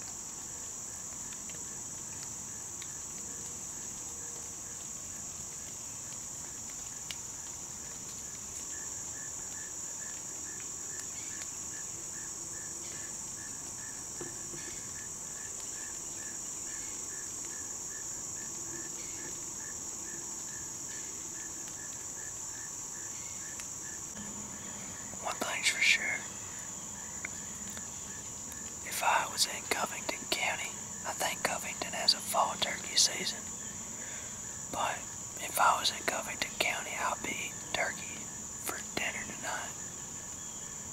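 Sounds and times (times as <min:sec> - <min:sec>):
insect pulsing softly: 0:00.0 - 0:40.9
insect high-pitched drone: 0:00.4 - 0:40.9.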